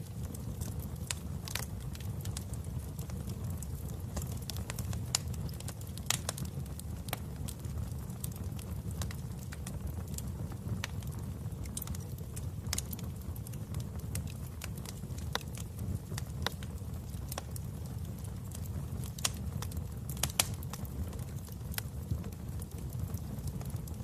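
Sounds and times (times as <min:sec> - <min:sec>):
fire crackling and popping: 0:00.0 - 0:24.0
fire rumbling: 0:00.0 - 0:24.0.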